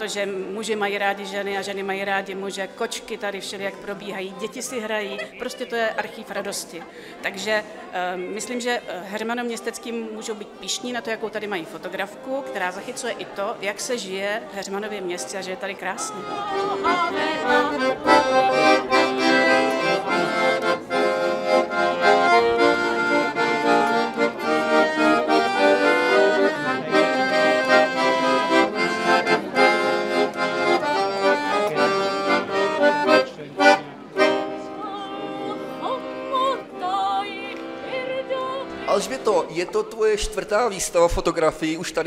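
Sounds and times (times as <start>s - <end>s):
accordion playing a tune: 0.0s - 41.0s.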